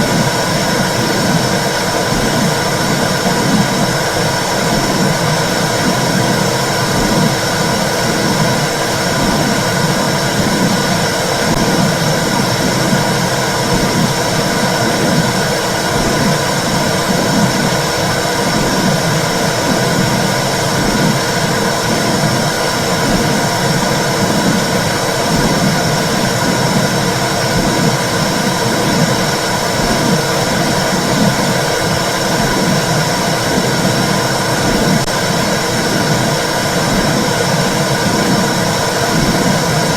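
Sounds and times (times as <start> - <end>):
loud whooshing noise: 0.0 - 39.9.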